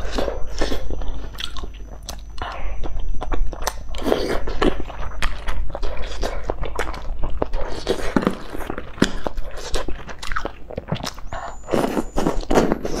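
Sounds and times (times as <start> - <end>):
biting and chewing food: 0.0 - 13.0.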